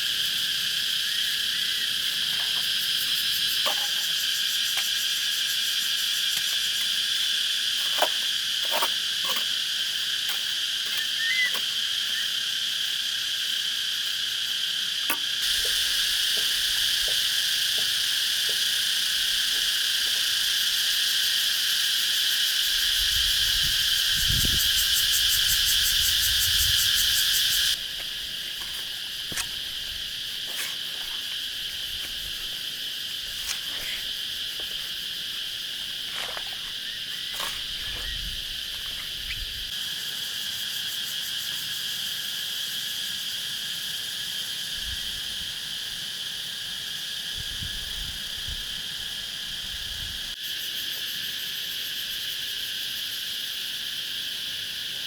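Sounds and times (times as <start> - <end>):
insects chorusing: 0.0 - 55.0.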